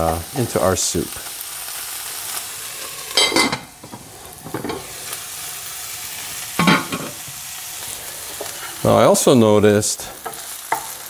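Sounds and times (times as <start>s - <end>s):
greens sizzling in oil: 0.0s - 11.0s.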